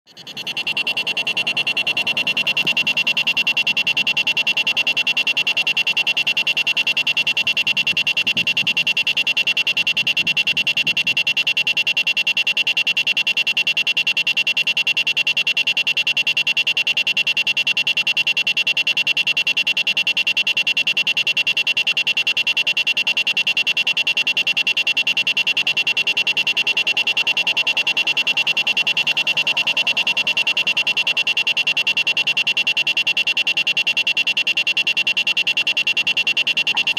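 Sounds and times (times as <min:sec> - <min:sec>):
pulsing electronic doorbell tone: 0:00.1 - 0:36.9.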